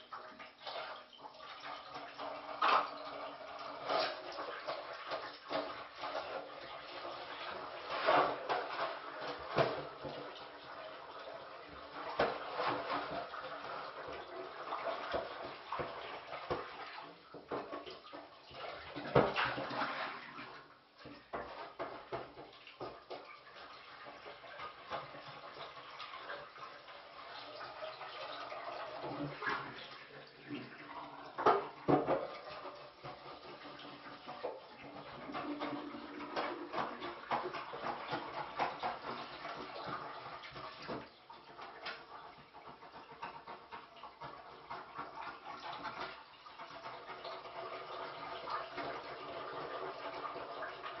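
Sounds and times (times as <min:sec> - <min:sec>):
tap water running into sink: 0:00.0 - 0:51.0.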